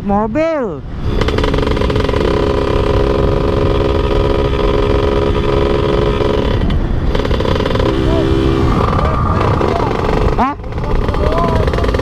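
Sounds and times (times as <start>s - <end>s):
wind rumble on microphone: 0.0s - 12.0s
motorcycle engine running: 1.0s - 12.0s.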